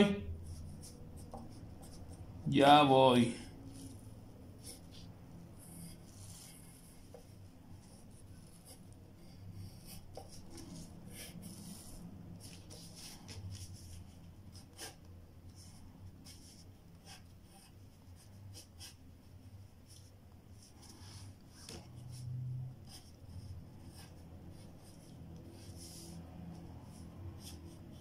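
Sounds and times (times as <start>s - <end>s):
low steady hum: 0.0s - 28.0s
pencil scratching on paper: 0.3s - 2.3s, 3.7s - 28.0s.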